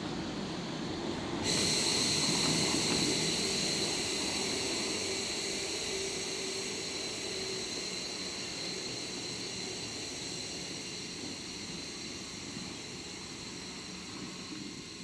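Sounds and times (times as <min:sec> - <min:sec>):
air brakes hissing: 0:01.4 - 0:15.0.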